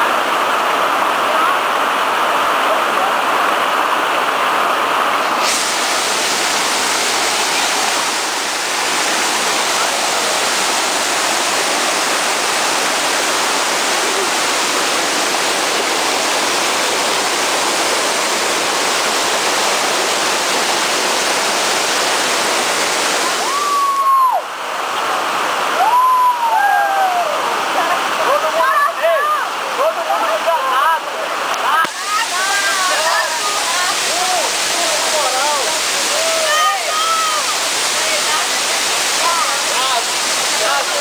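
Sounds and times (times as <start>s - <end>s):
water rushing over boulders: 0.0s - 41.0s.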